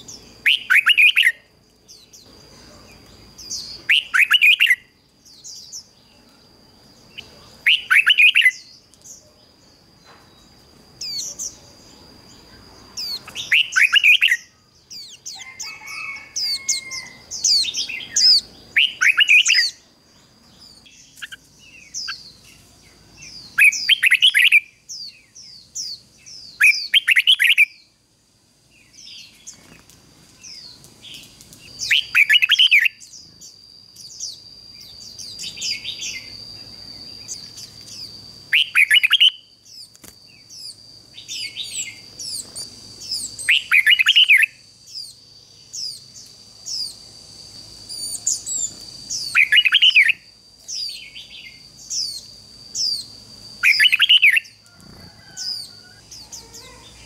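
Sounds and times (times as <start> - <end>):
bird singing warbled phrases: 0.0 - 9.8, 10.4 - 28.0, 30.4 - 47.1, 47.8 - 57.0
quiet bird chirps: 0.0 - 28.1, 28.7 - 57.0.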